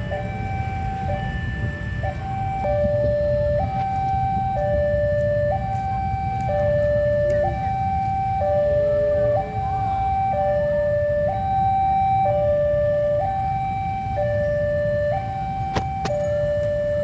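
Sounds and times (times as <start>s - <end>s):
level crossing two-tone alarm: 0.0s - 17.0s.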